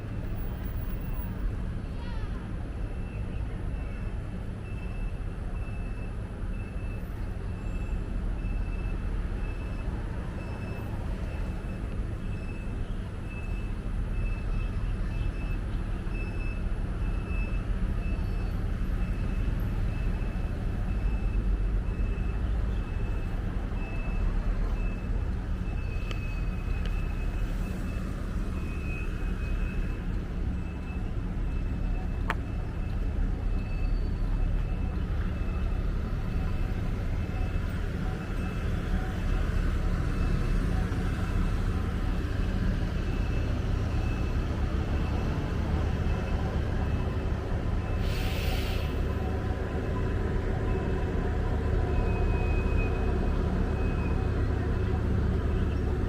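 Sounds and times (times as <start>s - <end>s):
city street traffic rumble: 0.0s - 56.0s.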